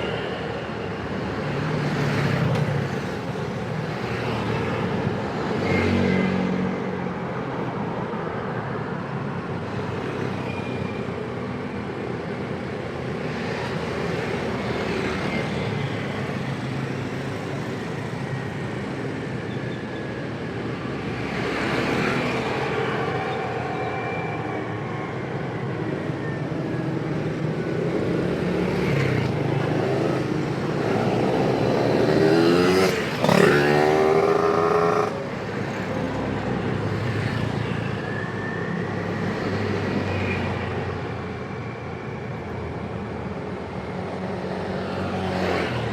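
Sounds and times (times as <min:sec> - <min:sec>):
city road traffic: 0:00.0 - 0:45.9.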